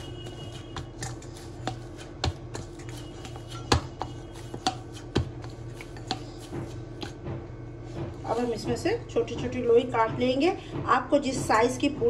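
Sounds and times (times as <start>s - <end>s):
dough kneaded in steel bowl: 0.0s - 12.0s
dough thumping: 0.0s - 12.0s.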